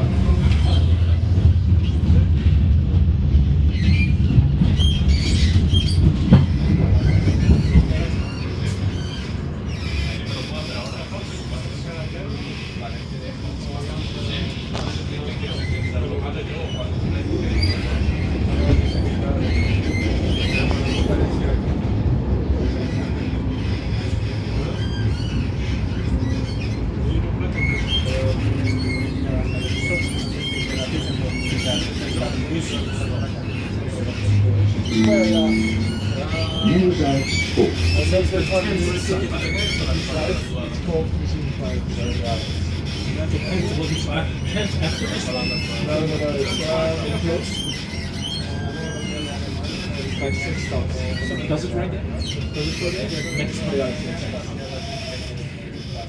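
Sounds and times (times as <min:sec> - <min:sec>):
tram rumbling on rails: 0:00.0 - 0:45.9.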